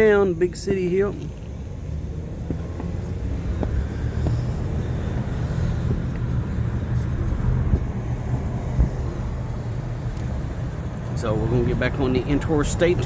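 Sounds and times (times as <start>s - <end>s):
truck road and engine rumble: 0.0s - 13.0s.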